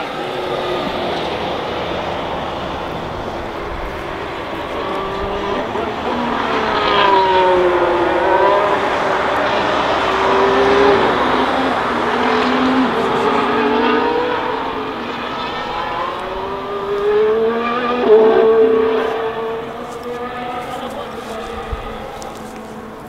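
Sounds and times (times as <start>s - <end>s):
race car engine passing: 0.0s - 23.0s.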